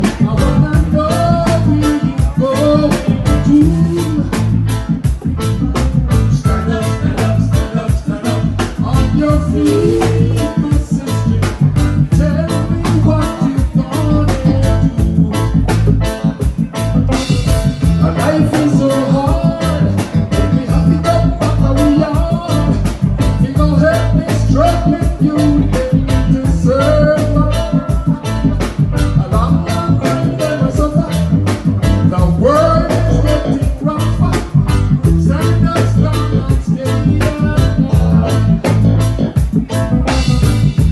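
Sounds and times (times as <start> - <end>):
live ska-reggae band: 0.0 - 40.9
person singing: 0.0 - 40.9.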